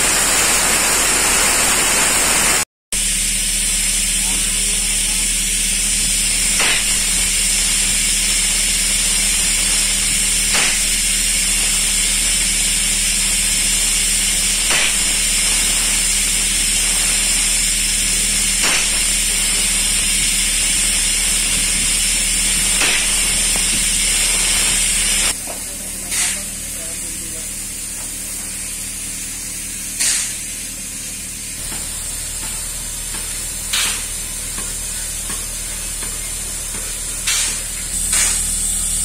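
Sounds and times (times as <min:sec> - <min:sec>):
low machine hum: 0:00.0 - 0:39.0
paint spray gun hissing: 0:00.0 - 0:39.0.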